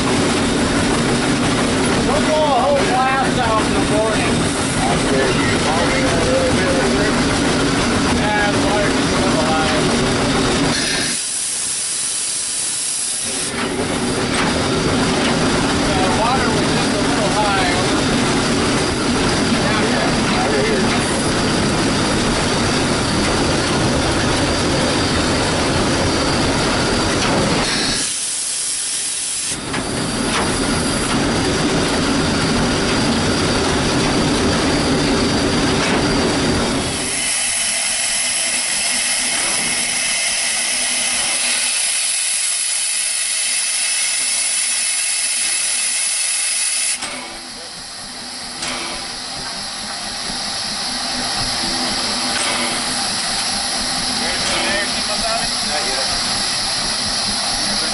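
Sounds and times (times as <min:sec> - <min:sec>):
steam hissing: 0:00.0 - 0:57.9
train wheels rumbling and clattering: 0:00.0 - 0:57.9.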